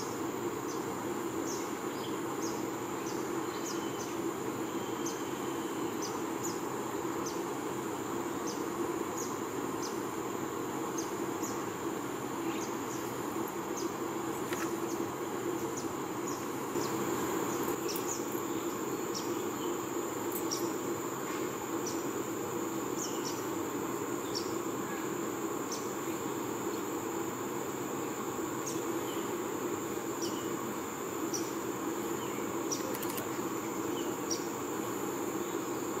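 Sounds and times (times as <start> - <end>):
high-pitched insect drone: 0.0 - 36.0
low steady hum: 0.0 - 36.0.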